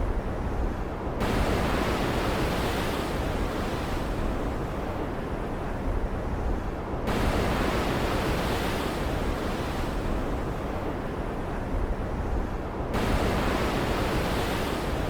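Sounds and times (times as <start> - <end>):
waves and surf: 0.2 - 15.0.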